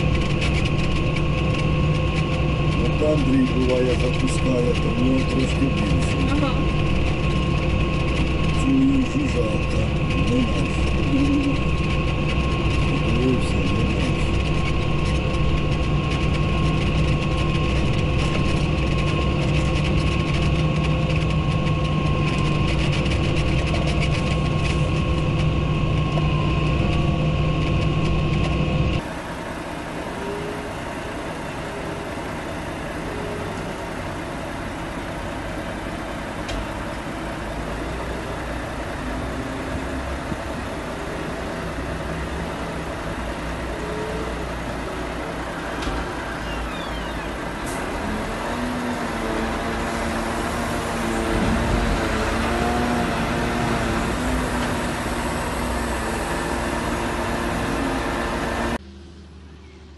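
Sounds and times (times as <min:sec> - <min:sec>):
crane engine running: 0:00.0 - 0:59.9
engine drone inside a cab: 0:00.0 - 0:59.9
high whine: 0:00.0 - 0:59.9.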